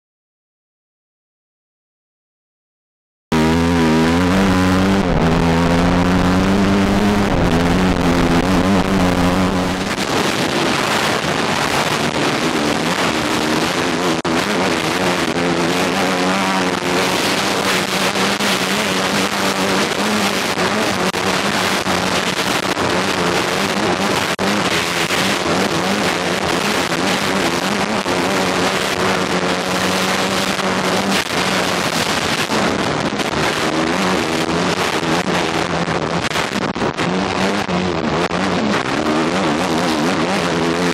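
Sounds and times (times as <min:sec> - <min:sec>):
dirt bike engine running hard: 0:03.3 - 0:40.9.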